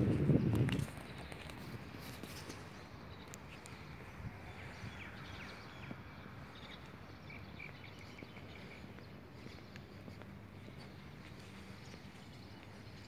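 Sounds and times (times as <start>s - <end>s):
birds chirping faintly: 0.2s - 13.0s.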